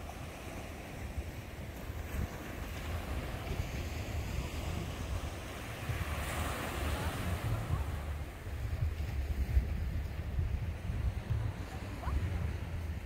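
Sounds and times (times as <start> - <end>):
sea waves washing ashore: 0.0 - 13.0
wind buffeting microphone: 0.0 - 13.0.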